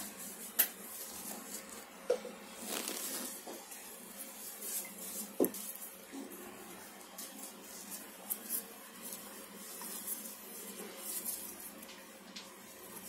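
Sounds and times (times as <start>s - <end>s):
gloved hands rubbing glass bottle: 0.1s - 11.9s.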